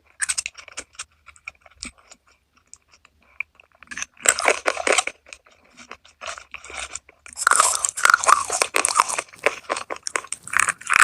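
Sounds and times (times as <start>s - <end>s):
crunching bites and chewing: 0.0s - 11.0s.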